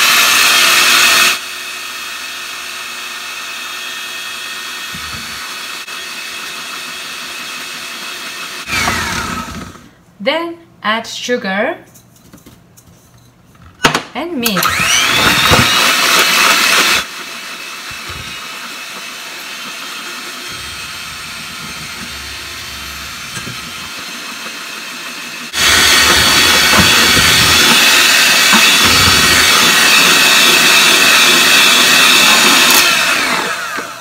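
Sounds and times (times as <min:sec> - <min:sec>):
electric mixer whirring: 0:00.0 - 0:09.9, 0:14.6 - 0:34.0.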